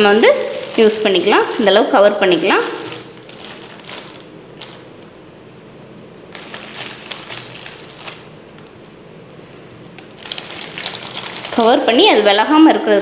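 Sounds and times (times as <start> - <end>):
plastic cover crinkling: 0.0 - 5.3, 5.9 - 13.0.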